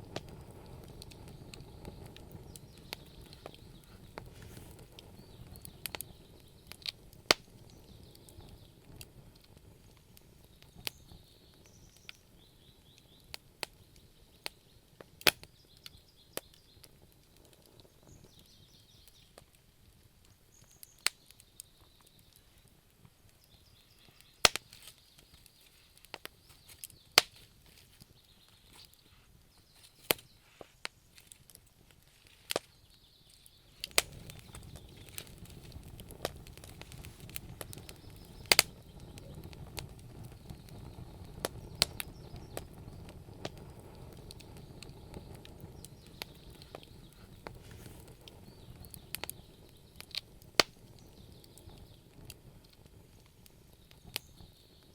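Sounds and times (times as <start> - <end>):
low noise of burning fire: 0.0 - 54.9
wood fire crackling and popping: 0.0 - 54.9.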